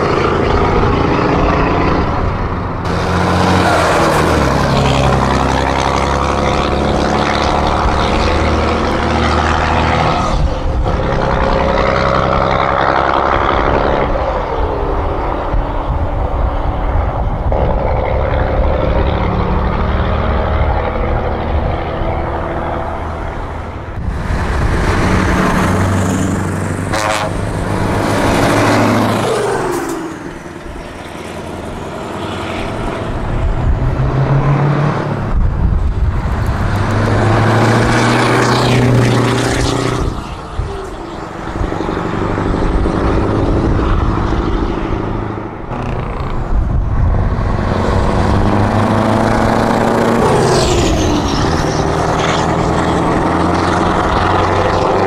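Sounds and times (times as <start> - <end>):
truck diesel engines passing: 0.0 - 55.0.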